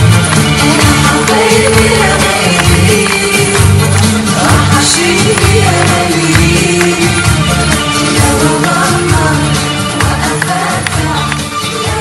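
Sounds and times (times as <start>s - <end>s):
strong drum beat: 0.0s - 11.2s
jingling percussion: 0.0s - 12.0s
loud dance music: 0.0s - 12.0s.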